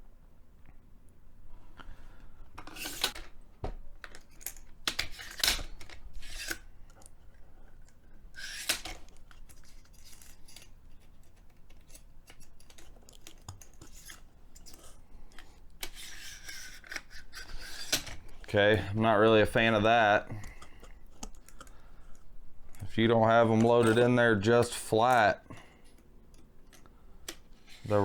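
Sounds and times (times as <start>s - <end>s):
plastic rustling and scraping: 2.5s - 3.4s, 4.0s - 28.0s.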